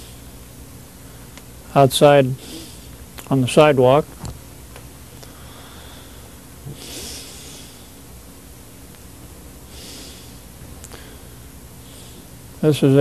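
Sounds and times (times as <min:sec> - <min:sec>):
recording hiss and hum: 0:00.0 - 0:13.0.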